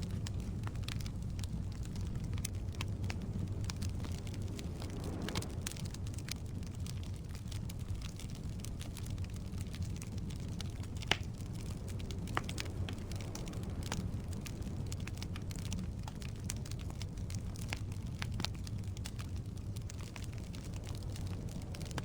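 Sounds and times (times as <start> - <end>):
fire crackling in fireplace: 0.0 - 22.0.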